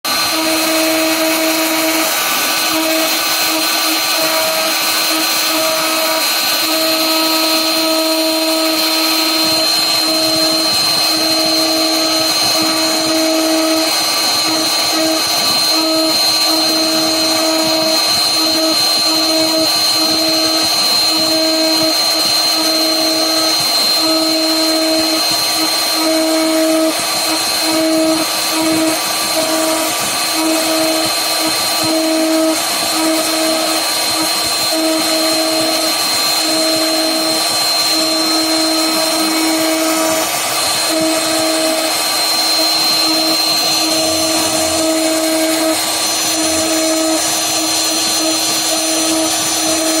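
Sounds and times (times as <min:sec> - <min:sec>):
router spindle whine: 0:00.0 - 0:50.0
low hum: 0:00.1 - 0:50.0
wood cutting hiss: 0:00.1 - 0:50.0.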